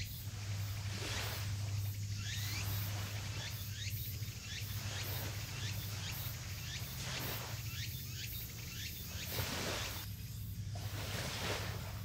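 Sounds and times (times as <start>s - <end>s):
pulsing insect buzz: 0.0s - 12.0s
steady low hum: 0.0s - 12.0s.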